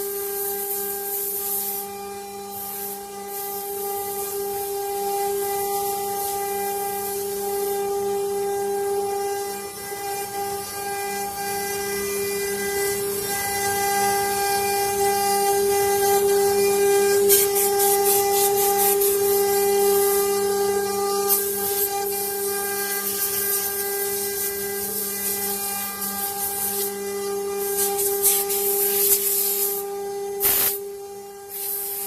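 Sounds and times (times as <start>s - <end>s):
router spindle whine: 0.0s - 32.0s.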